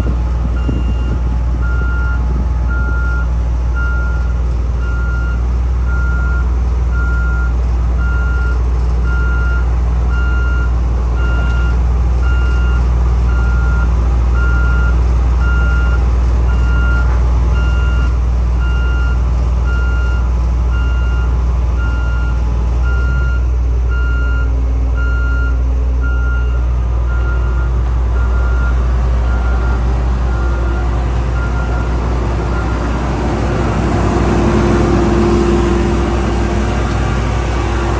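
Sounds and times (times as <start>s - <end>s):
diesel engine droning: 0.0s - 37.9s
reversing alarm beeps: 0.6s - 6.4s, 9.1s - 12.8s, 14.4s - 35.6s.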